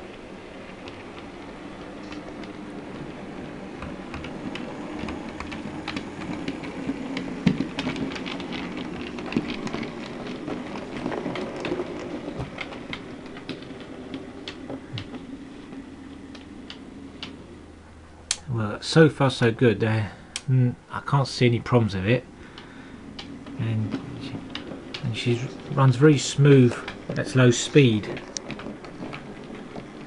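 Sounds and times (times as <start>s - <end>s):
wheels clicking over rail joints: 0.0s - 17.6s, 18.7s - 30.0s
model train motor hum: 0.0s - 17.7s, 21.2s - 30.0s.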